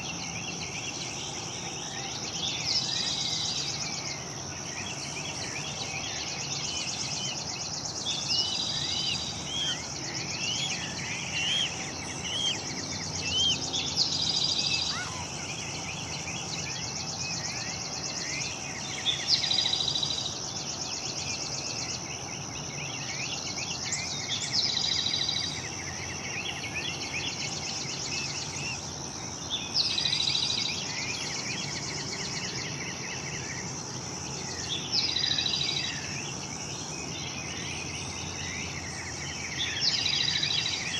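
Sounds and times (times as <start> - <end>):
insects chorus: 0.0 - 40.9
songbirds chirping: 0.0 - 40.9.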